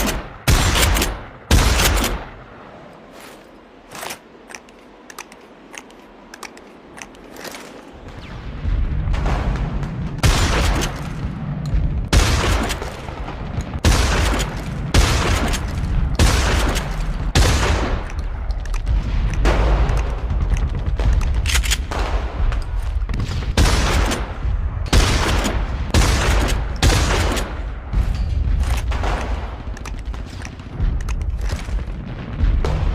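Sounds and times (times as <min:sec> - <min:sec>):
low rumble: 0:00.0 - 0:32.9.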